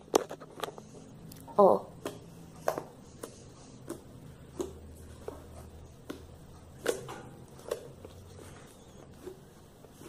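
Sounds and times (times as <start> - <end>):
slime squishing by hand: 0.0 - 10.0.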